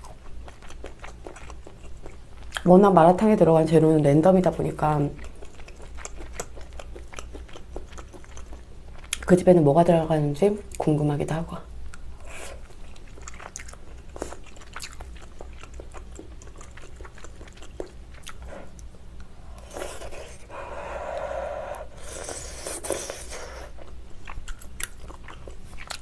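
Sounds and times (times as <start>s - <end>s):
chewing with wet mouth sounds: 0.0s - 9.6s, 11.8s - 26.0s.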